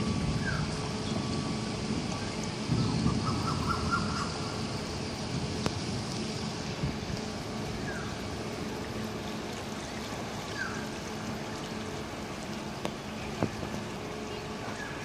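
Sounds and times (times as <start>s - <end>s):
constant noisy wash: 0.0s - 15.0s
low engine hum: 0.0s - 15.0s.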